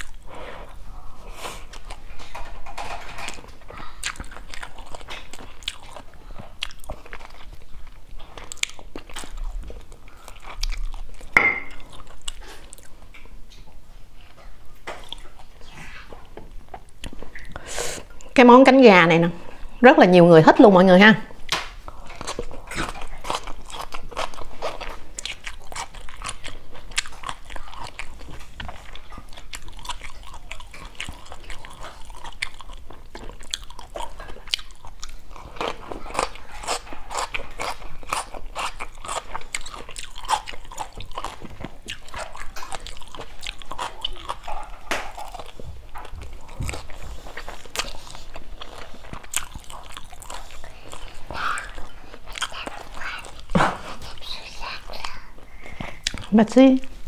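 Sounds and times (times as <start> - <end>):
chewing crunches: 0.0 - 0.4, 1.2 - 13.7, 21.9 - 57.0.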